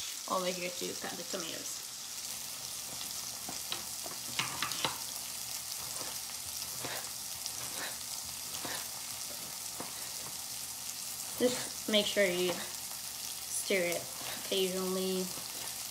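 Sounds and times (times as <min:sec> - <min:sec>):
vegetables sizzling in frying pan: 0:00.0 - 0:15.9.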